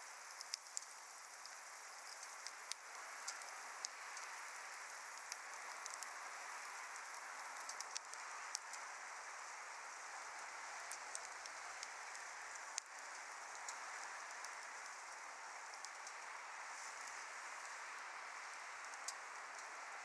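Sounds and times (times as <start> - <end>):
wood fire crackling and hissing: 0.0 - 20.0.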